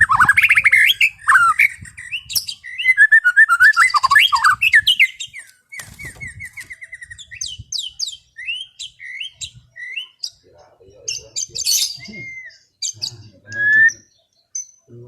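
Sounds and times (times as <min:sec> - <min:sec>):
songbird singing varied song: 0:00.0 - 0:15.0.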